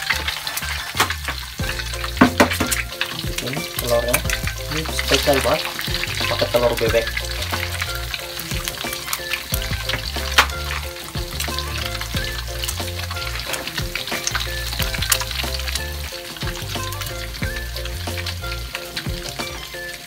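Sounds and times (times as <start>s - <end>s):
background music with bass line: 0.0s - 20.0s
eggs sizzling in hot oil: 0.0s - 20.0s
oil spatters crackling: 0.0s - 20.0s.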